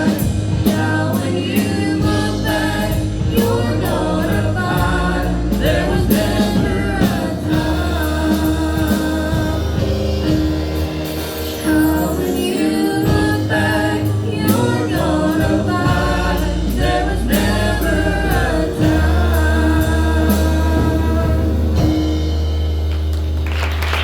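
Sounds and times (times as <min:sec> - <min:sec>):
people singing: 0:00.0 - 0:22.3
guitar and bass band music: 0:00.0 - 0:24.0.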